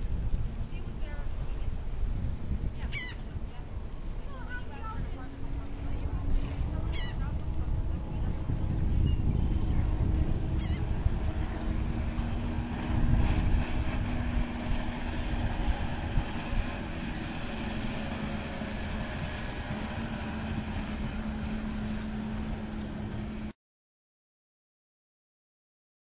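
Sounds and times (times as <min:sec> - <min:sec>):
wind buffeting the microphone: 0:00.0 - 0:23.5
boat motor running: 0:00.0 - 0:23.6.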